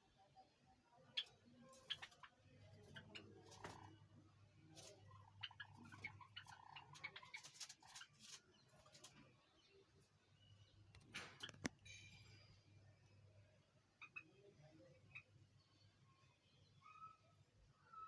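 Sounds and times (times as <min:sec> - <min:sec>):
sparrows chirping faintly: 0:00.0 - 0:18.0.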